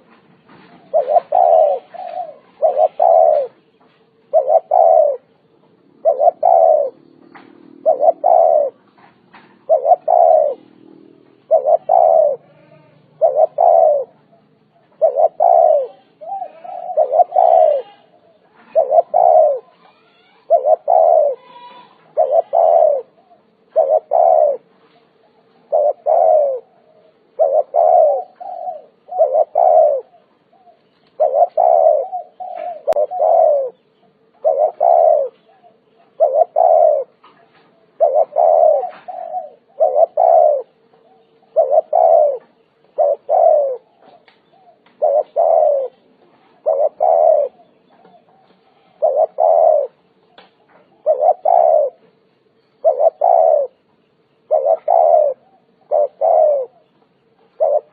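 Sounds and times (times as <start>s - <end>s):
dove cooing: 0.0s - 57.9s
faint steady hum: 0.0s - 57.9s.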